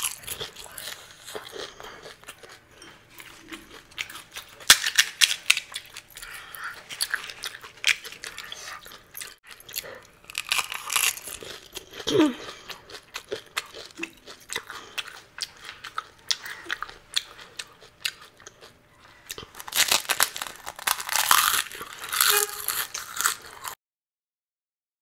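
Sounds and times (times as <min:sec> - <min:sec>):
crunching of crisp shells: 0:00.0 - 0:23.8.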